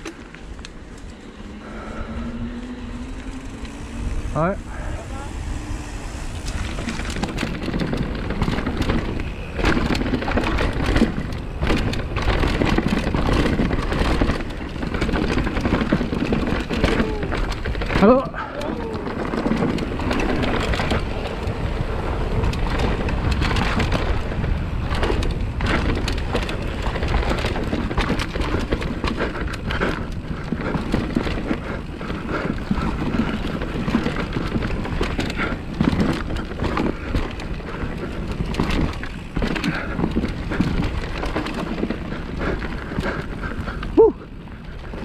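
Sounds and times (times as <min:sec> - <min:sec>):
bike knocking and rattling: 0:00.0 - 0:45.0
bike tyres rolling over dirt: 0:00.0 - 0:45.0
wind rumble on microphone: 0:00.0 - 0:45.0.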